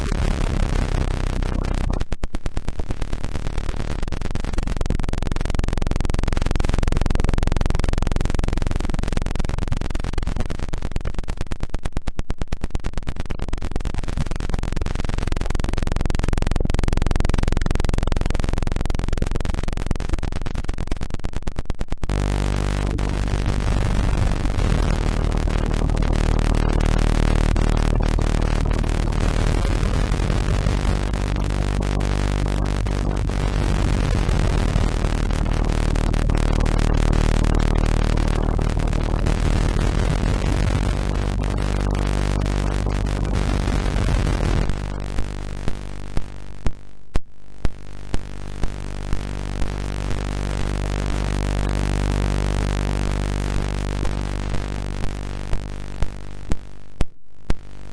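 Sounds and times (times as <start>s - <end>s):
rapid pulsing electronic tone: 0.0s - 46.8s
buzzing droning electronic tones: 0.0s - 57.0s.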